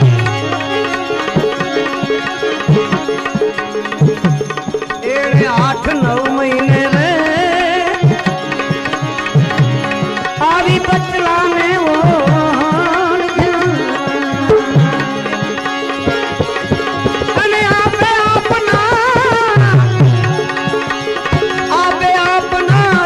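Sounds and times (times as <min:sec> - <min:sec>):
tabla rhythm: 0:00.0 - 0:23.0.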